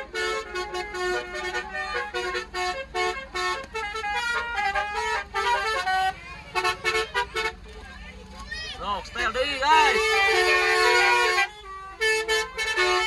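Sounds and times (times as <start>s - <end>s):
musical air horn playing a tune: 0.0s - 7.6s, 9.8s - 13.0s.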